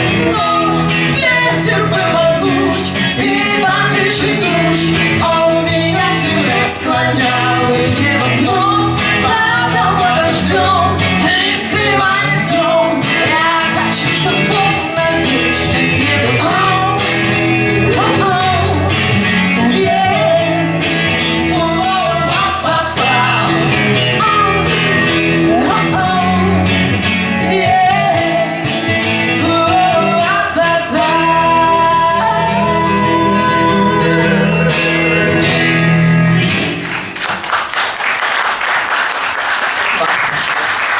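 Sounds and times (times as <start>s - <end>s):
person singing: 0.0s - 36.4s
acoustic guitar: 0.0s - 37.7s.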